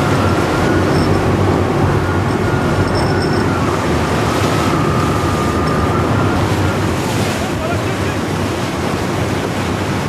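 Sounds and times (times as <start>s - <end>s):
boat engine running: 0.0s - 10.0s
rough sea: 0.0s - 10.0s
wind: 0.0s - 10.0s.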